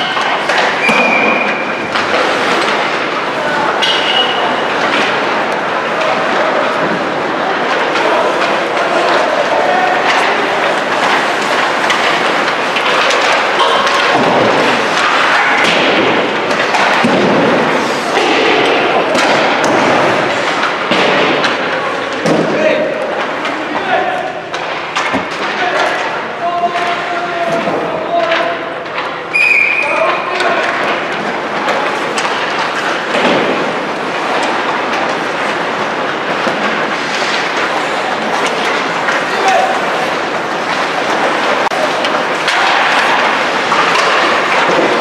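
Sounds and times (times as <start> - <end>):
ice rink skating noise: 0.0 - 45.0
pucks knocking against boards: 0.0 - 45.0.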